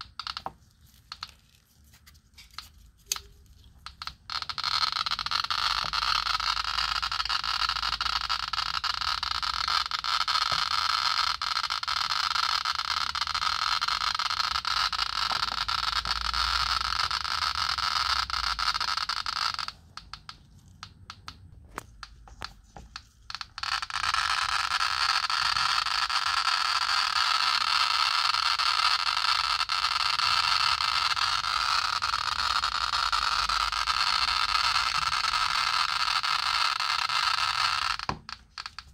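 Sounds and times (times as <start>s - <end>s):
geiger counter clicking: 0.0s - 1.5s, 2.6s - 38.9s.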